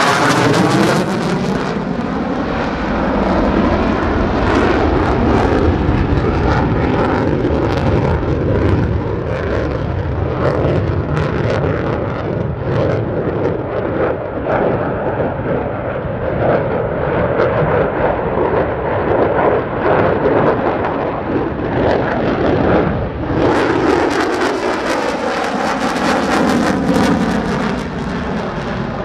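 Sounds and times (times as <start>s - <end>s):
fighter jet flying past: 0.0s - 29.0s.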